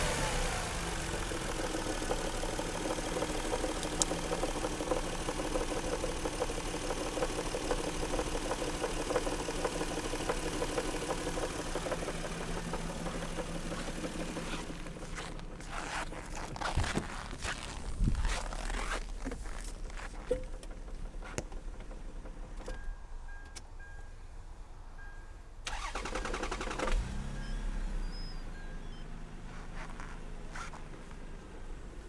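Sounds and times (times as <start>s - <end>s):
car engine idling with knocks: 0.0s - 23.8s, 29.4s - 31.5s.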